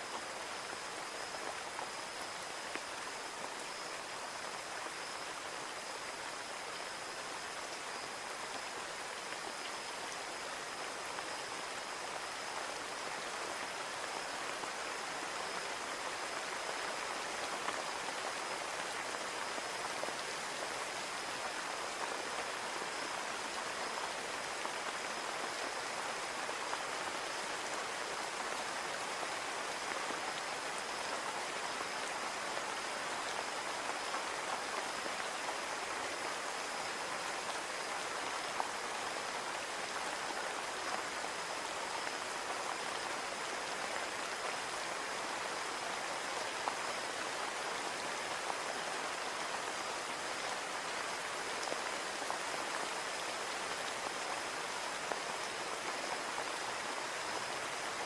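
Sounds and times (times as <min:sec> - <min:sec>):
rain on a window pane: 0:00.1 - 0:58.0.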